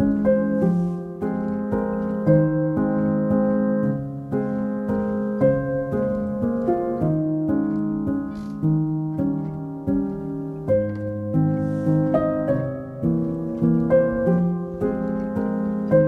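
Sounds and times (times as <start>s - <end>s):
piano notes ringing: 0.0s - 16.0s.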